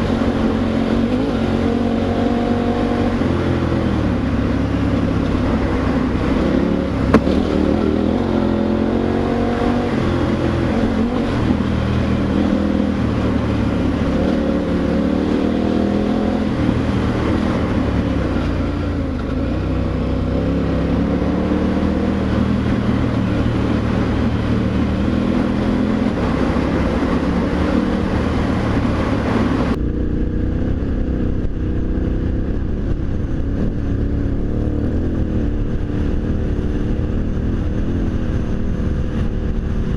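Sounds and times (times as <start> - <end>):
motorcycle engine revving while riding: 0.0 - 39.9
rushing wind noise: 0.0 - 39.9.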